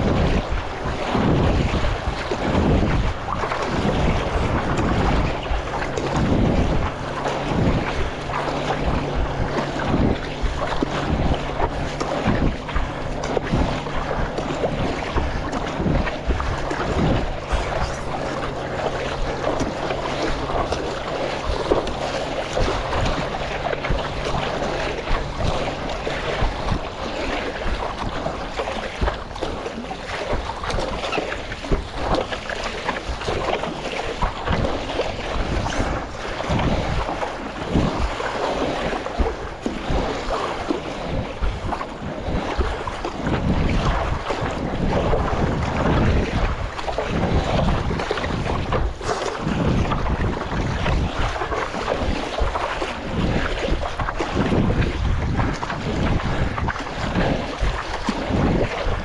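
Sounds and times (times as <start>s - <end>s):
splashing water and surf: 0.0s - 59.0s
wind buffeting microphone: 0.0s - 59.0s.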